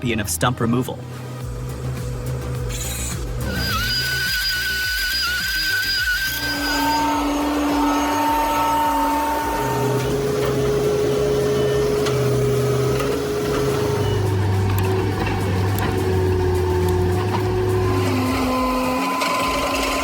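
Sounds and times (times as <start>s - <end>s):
heavy machinery engine and hydraulics: 0.9s - 20.0s
whining hum: 1.0s - 20.0s.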